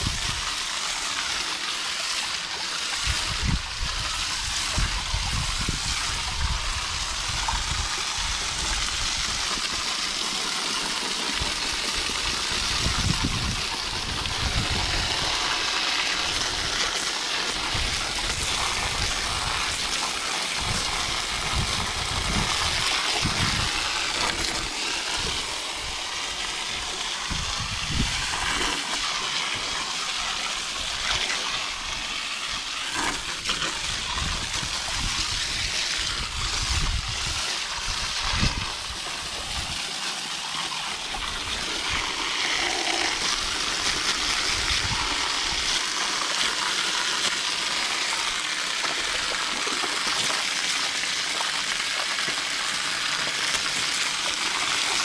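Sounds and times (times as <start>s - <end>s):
hose water spraying on metal fins: 0.0s - 55.0s.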